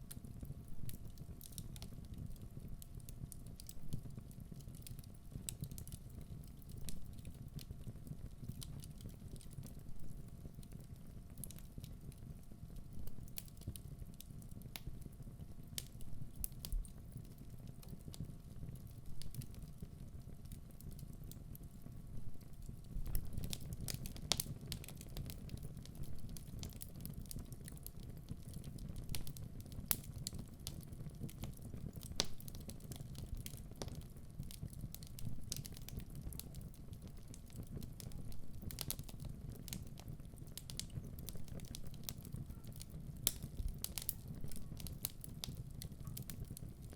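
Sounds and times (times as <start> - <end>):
fire rumbling: 0.0 - 46.9
logs crackling and popping: 0.1 - 15.1, 15.7 - 46.9.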